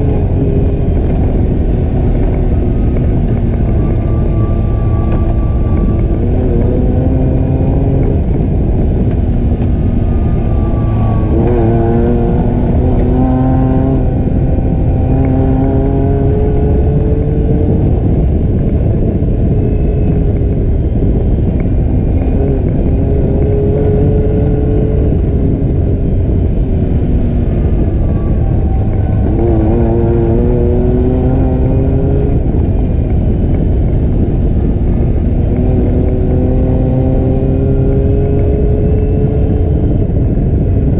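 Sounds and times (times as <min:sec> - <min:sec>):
atv engine revving: 0:00.0 - 0:18.3, 0:19.7 - 0:40.9.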